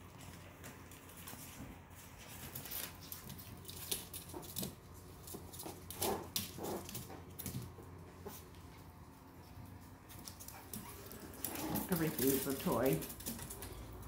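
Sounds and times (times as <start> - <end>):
puppy clicking and scraping vent: 0.0 - 14.0.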